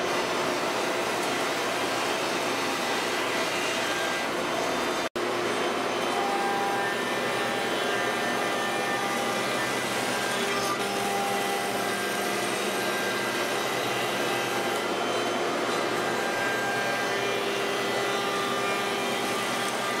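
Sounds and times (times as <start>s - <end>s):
cnc router planing wood: 0.0s - 20.0s.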